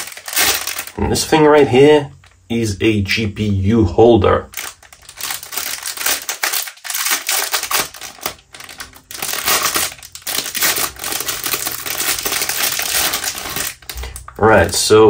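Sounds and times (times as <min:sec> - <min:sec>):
plastic bag crinkling: 0:00.0 - 0:02.4, 0:04.5 - 0:14.9.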